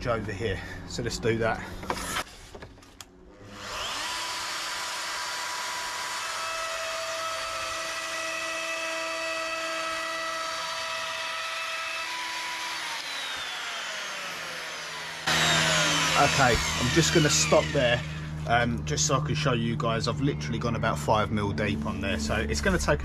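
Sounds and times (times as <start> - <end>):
router whining: 0.6 - 23.0.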